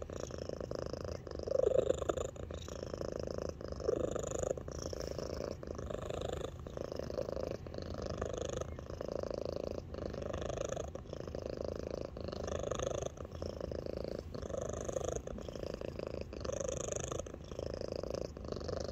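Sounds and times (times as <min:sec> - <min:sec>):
cat purring: 0:00.0 - 0:18.9.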